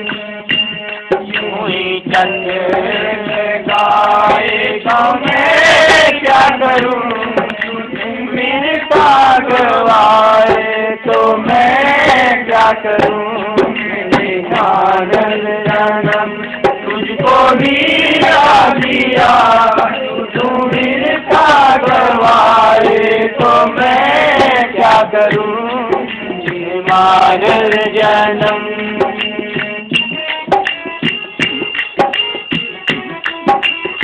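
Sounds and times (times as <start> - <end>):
men singing together: 1.1 - 30.1.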